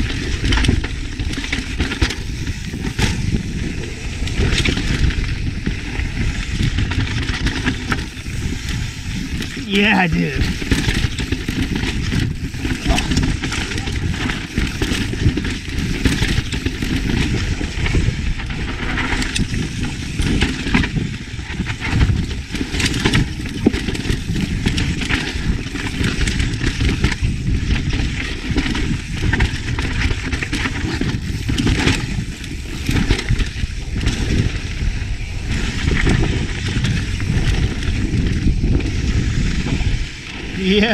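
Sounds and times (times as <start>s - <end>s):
bike rattling over rock: 0.0s - 40.9s
wind on microphone: 0.0s - 40.9s.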